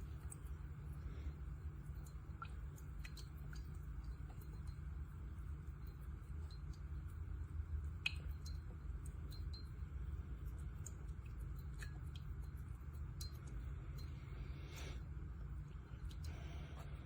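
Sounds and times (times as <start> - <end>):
faint ticks and clicks: 0.0 - 14.3, 15.5 - 17.0.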